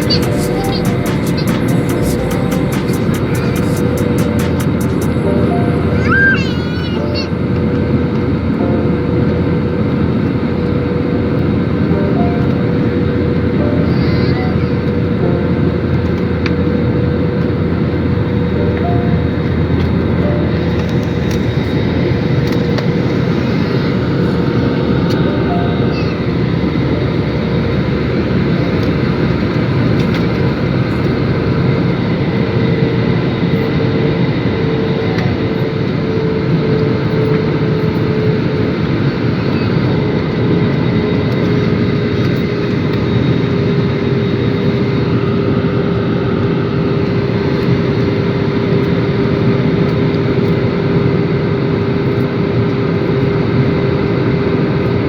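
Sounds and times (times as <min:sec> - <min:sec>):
airliner engine rush and whine: 0:00.0 - 0:55.0.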